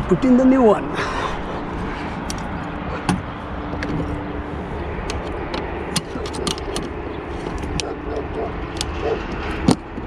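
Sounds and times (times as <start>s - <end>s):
low vehicle rumble: 0.0s - 10.0s.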